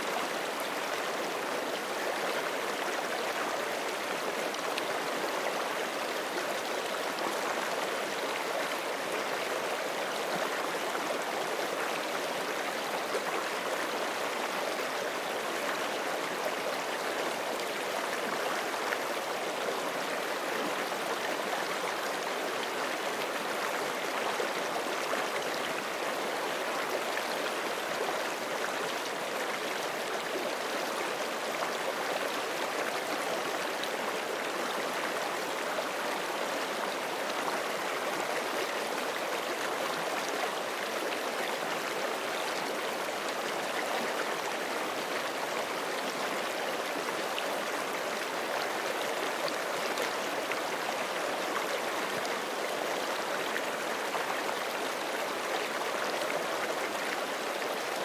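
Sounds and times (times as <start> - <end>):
creek flowing over rocks: 0.0 - 58.0.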